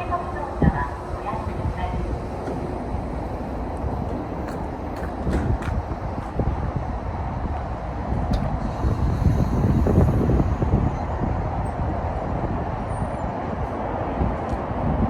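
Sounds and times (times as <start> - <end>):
electric train rumbling: 0.0 - 15.0
wind buffeting microphone: 0.0 - 15.0.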